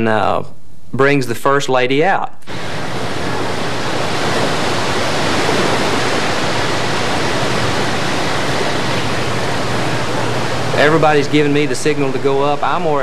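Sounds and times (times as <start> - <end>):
river rushing: 2.5 - 13.0.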